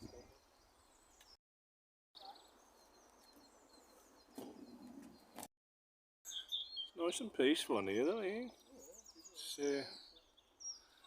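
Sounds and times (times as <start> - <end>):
birds chirping: 0.0 - 1.4, 2.2 - 5.5, 6.3 - 11.0.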